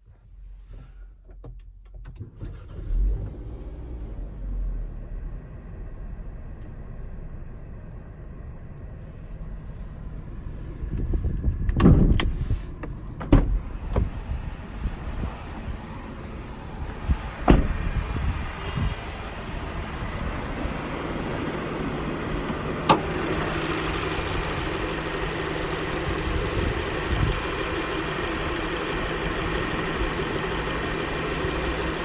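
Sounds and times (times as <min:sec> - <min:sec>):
car engine running: 0:03.5 - 0:32.0.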